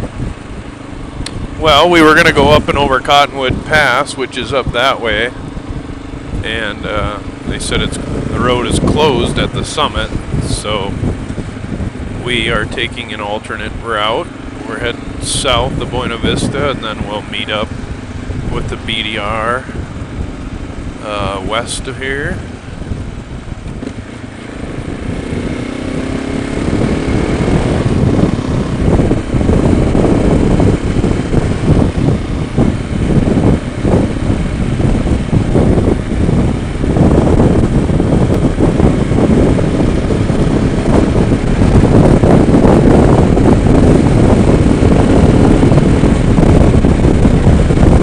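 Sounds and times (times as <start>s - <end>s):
motorcycle engine accelerating: 0.0s - 48.0s
wind rushing over microphone: 0.0s - 48.0s.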